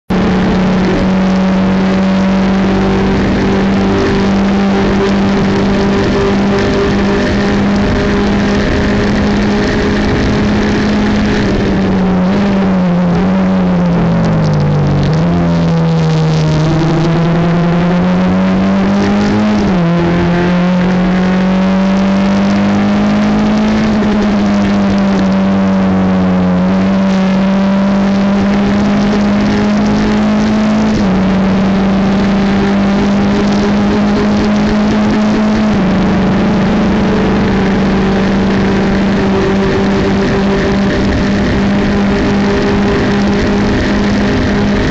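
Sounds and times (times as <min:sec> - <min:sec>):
race car engine running hard: 0:00.0 - 0:44.9
wind and road noise: 0:00.0 - 0:44.9.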